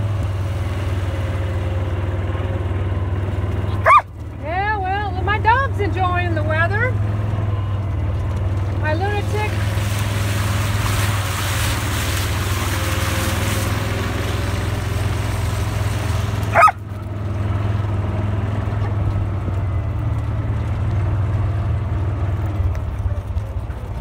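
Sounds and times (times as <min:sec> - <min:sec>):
utility vehicle engine humming: 0:00.0 - 0:24.0.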